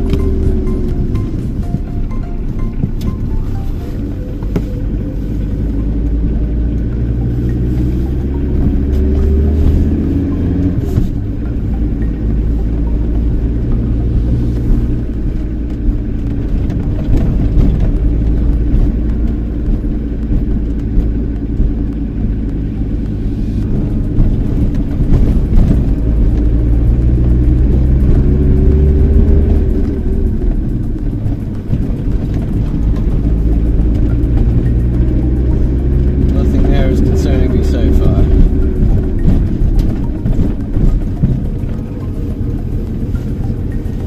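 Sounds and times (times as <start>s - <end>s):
road and tyre rumble: 0.0s - 44.0s
van engine running: 0.0s - 44.0s.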